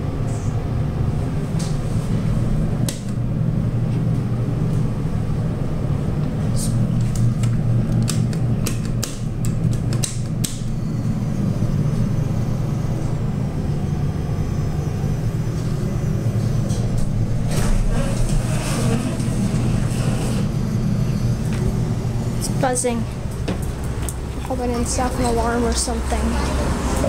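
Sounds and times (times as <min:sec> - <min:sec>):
elevator humming: 0:00.0 - 0:27.0.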